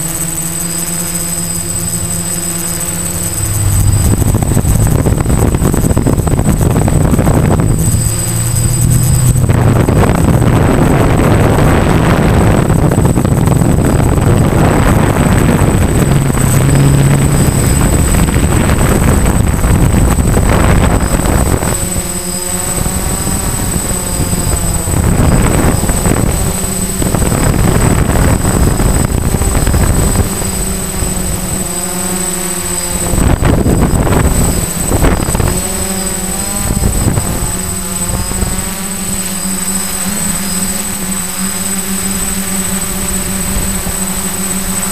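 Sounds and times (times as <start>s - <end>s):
drone motors buzzing: 0.0s - 44.9s
wind noise on microphone: 0.0s - 44.9s.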